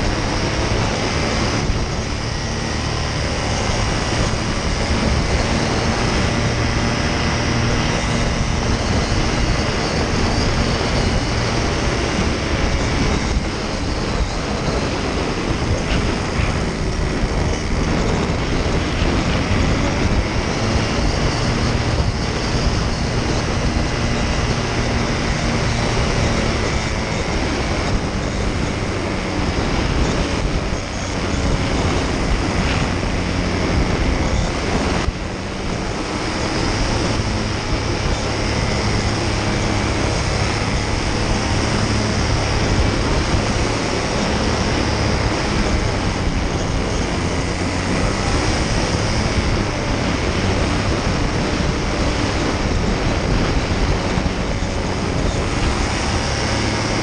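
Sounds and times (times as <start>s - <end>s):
paramotor engine and propeller: 0.0s - 57.0s
wind noise: 0.0s - 57.0s.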